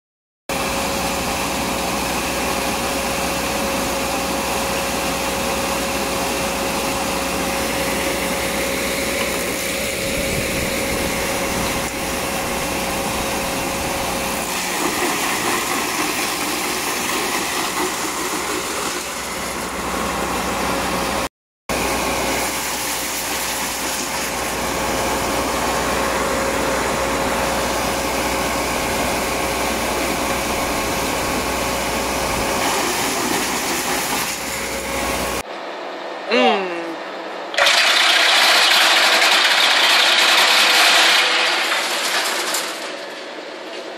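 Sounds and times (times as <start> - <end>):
wood chipper whine: 0.5 - 36.4, 37.2 - 43.9
wood chipper engine drone: 0.5 - 43.9.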